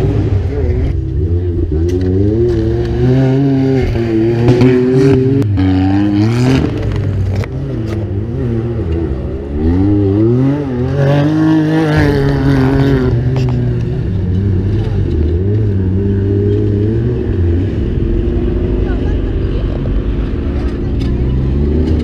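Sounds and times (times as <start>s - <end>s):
buggy engine revving hard: 0.0s - 22.0s.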